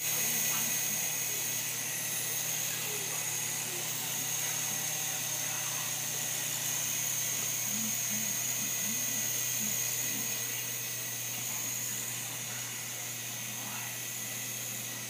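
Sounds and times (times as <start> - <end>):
rotors hissing: 0.0 - 15.0
toy helicopter motor whine: 0.0 - 15.0.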